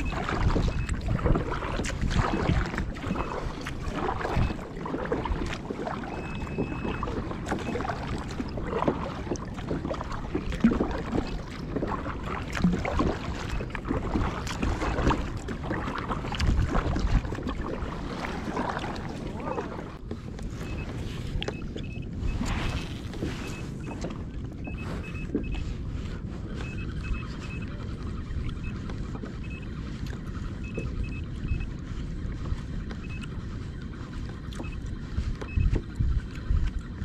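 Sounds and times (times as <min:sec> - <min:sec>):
water lapping against kayak hull: 0:00.0 - 0:37.0
wind buffeting microphone: 0:00.0 - 0:37.0.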